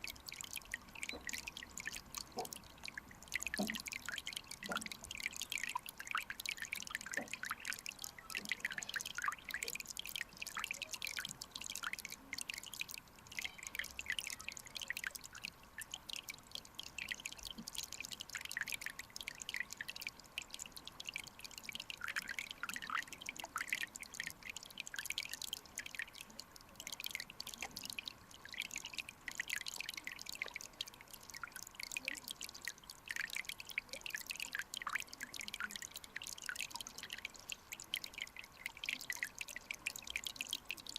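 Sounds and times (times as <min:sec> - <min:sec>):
underwater stream bubbling: 0:00.0 - 0:40.9.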